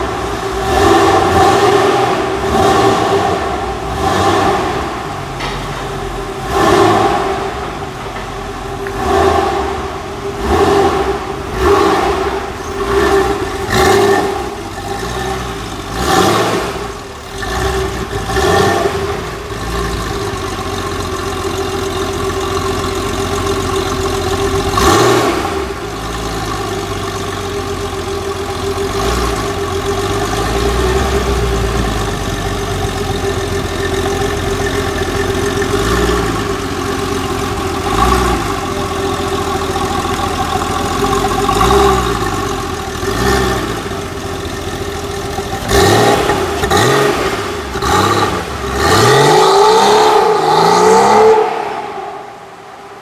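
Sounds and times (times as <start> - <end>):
car engine idling: 0.0 - 53.0
car engine revving: 0.0 - 53.0.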